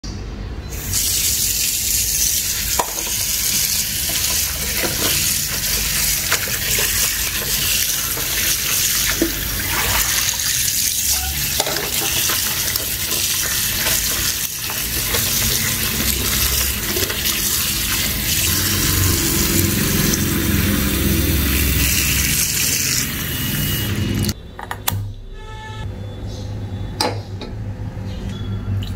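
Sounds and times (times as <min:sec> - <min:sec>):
tap water running into bowl: 0:00.9 - 0:24.4.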